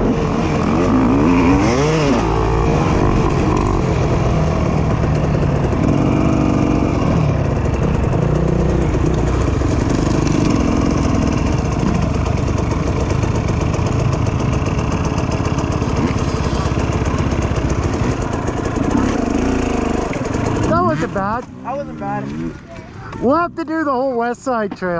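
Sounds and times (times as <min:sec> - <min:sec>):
dirt bike engine revving: 0:00.0 - 0:23.4.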